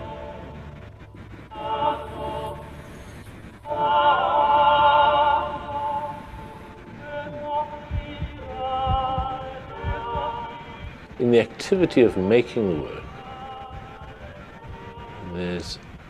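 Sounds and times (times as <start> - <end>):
choral singing with vibrato: 0.0 - 16.0.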